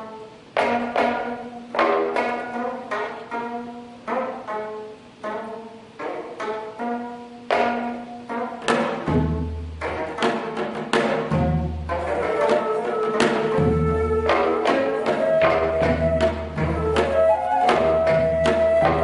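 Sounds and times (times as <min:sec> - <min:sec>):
plucked zither notes: 0:00.0 - 0:19.0.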